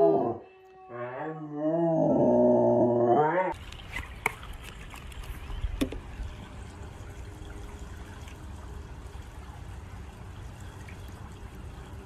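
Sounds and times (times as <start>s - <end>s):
pool water trickling and lapping: 1.5s - 12.0s.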